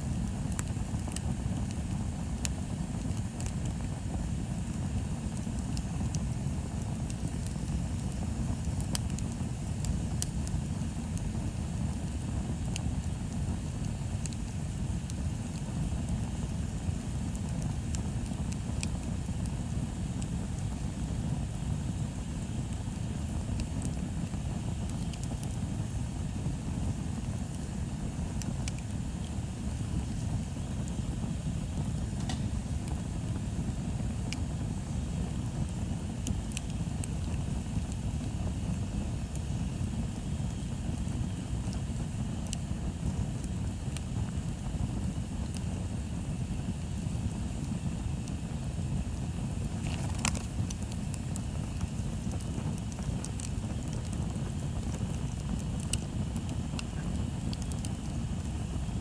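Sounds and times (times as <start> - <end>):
burning wood crackling: 0.0 - 59.0
fire low rumble: 0.0 - 59.0.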